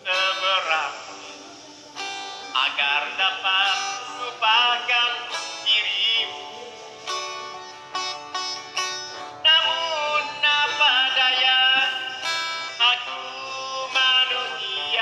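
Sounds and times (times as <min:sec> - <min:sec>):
person singing with vibrato: 0:00.0 - 0:15.0
plucked string instrument: 0:00.0 - 0:15.0.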